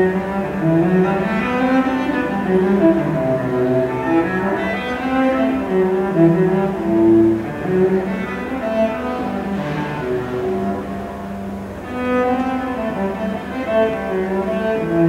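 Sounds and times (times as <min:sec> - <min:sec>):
bowed cello melody: 0:00.0 - 0:15.0.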